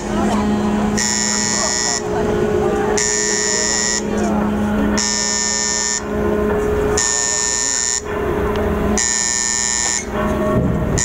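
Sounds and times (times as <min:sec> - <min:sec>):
steady low hum: 0:00.0 - 0:11.0
warning buzzer: 0:00.0 - 0:11.0.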